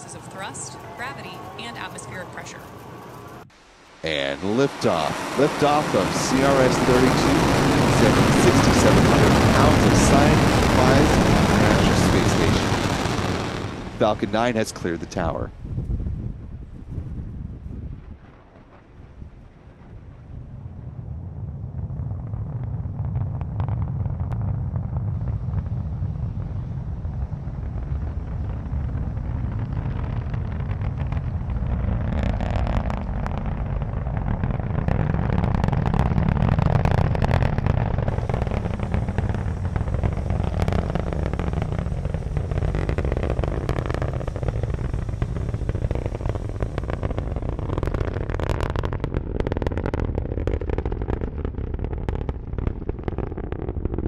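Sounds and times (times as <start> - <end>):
sharp crackling: 0.0 - 15.9, 18.0 - 54.0
rocket engines rumbling: 0.0 - 54.0.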